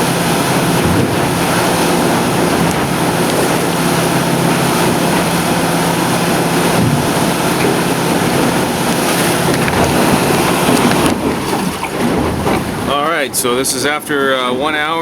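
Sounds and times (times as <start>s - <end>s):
wind on microphone: 0.0s - 13.0s
outboard motor running: 0.0s - 15.0s
water against hull: 0.0s - 15.0s.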